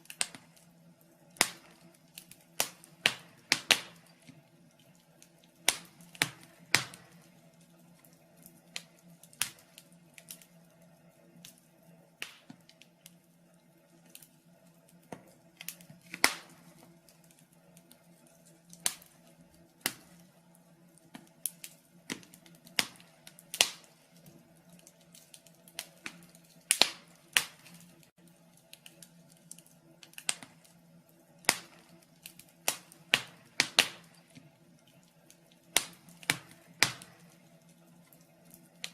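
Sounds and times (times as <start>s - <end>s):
faint steady hum: 0.0s - 38.9s
wood fire crackling and snapping: 0.0s - 38.9s.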